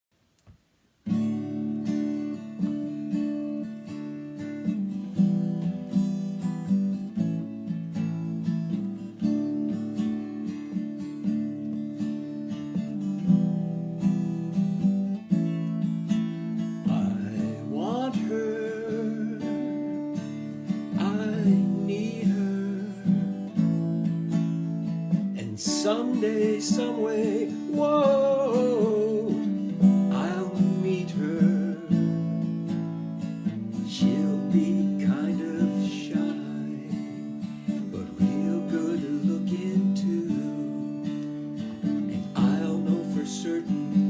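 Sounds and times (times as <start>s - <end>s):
acoustic guitar strumming: 1.0s - 44.0s.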